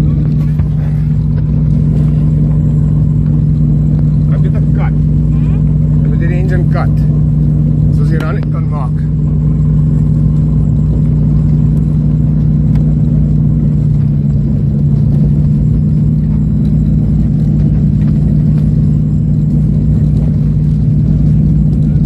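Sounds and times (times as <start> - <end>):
aircraft engine drone in cabin: 0.0 - 22.0.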